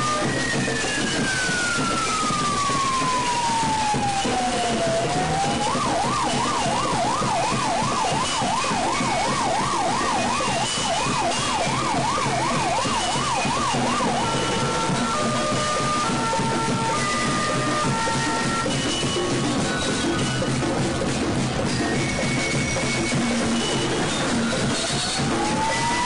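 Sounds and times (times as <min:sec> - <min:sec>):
fire truck siren wail and yelp: 0:00.0 - 0:26.0.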